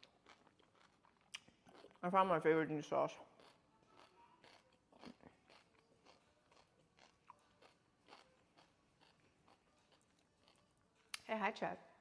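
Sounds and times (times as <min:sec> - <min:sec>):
person chewing food: 0:00.0 - 0:02.0, 0:03.3 - 0:11.2.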